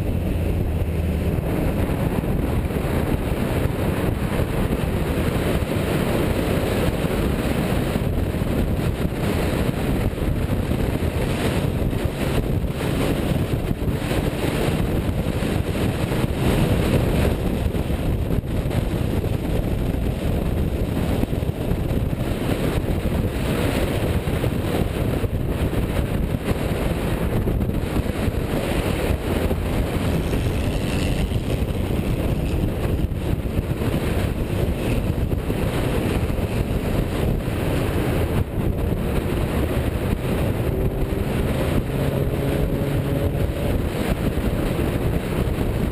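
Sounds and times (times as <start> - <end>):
car engine and road noise: 0.0 - 45.9
wind buffeting microphone: 0.0 - 45.9.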